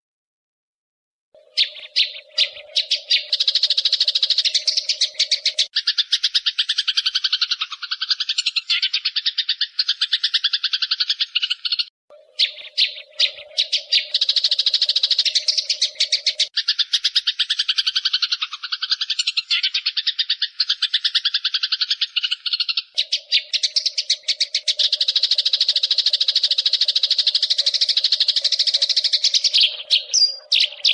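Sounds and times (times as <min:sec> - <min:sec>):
sparrows chattering: 0:01.4 - 0:30.9.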